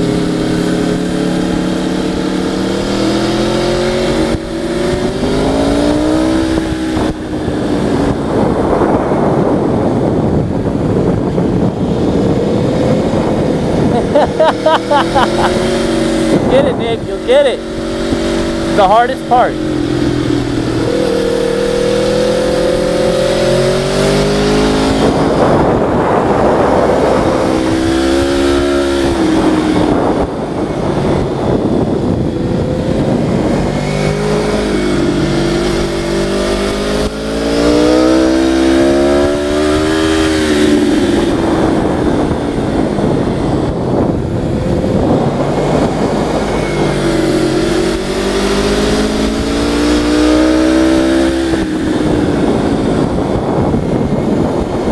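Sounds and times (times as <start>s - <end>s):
vehicle engine revving: 0.0s - 54.9s.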